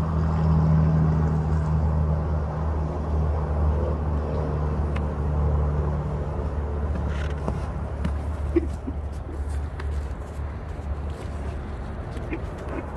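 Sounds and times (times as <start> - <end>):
constant hum: 0.0 - 12.9.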